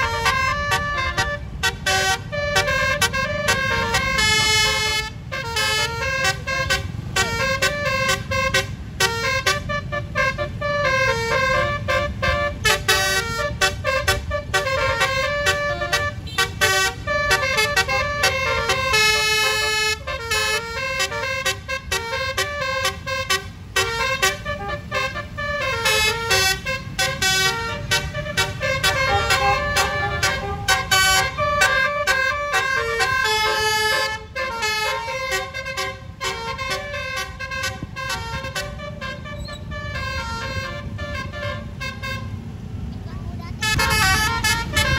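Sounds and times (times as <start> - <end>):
musical horn melody: 0.0 - 42.4, 43.6 - 44.9
bus engine running: 0.0 - 44.9.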